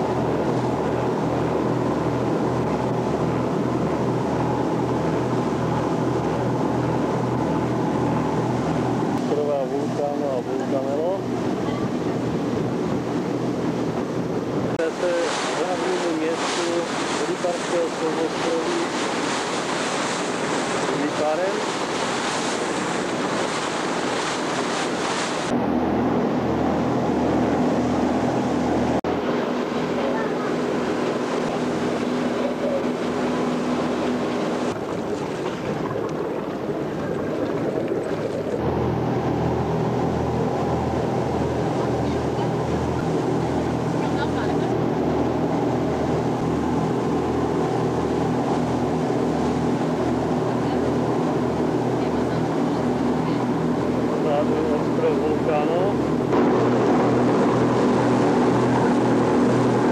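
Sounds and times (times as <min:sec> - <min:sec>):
boat engine droning: 0:00.0 - 0:59.9
wind and sea hiss: 0:00.0 - 0:59.9.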